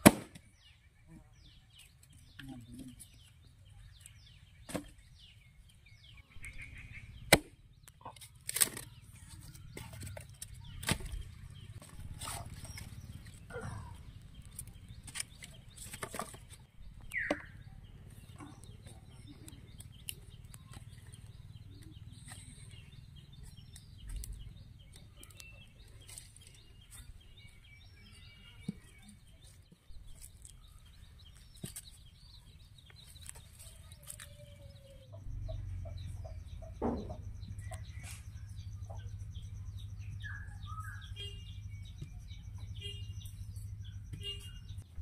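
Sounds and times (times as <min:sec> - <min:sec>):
small birds chirping: 0:00.1 - 0:45.0.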